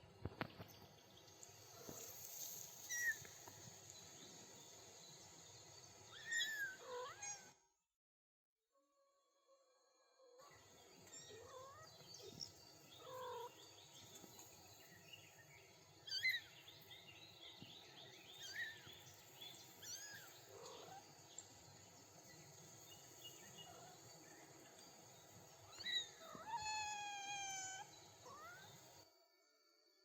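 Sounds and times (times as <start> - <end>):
songbirds chirping: 0.1 - 7.0, 10.4 - 29.0.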